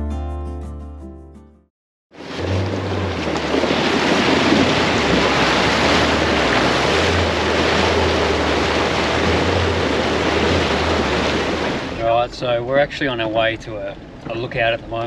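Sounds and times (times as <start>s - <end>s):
water rushing and splashing: 2.1s - 15.0s
vehicle engine droning: 2.2s - 15.0s.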